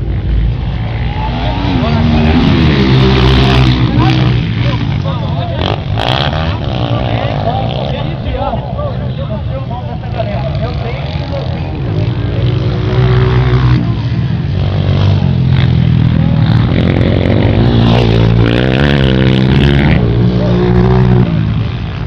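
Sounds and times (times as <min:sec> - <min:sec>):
dirt bike engine revving: 0:00.0 - 0:08.6, 0:10.0 - 0:22.0.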